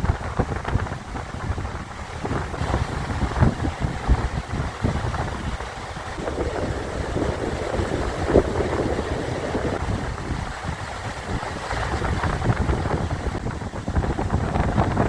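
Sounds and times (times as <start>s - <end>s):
wind buffeting microphone: 0.0s - 15.0s
river rushing over rapids: 0.1s - 15.0s.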